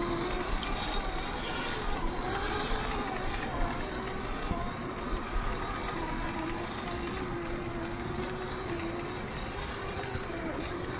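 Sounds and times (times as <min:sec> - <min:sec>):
rc car motor whining: 0:00.0 - 0:10.9.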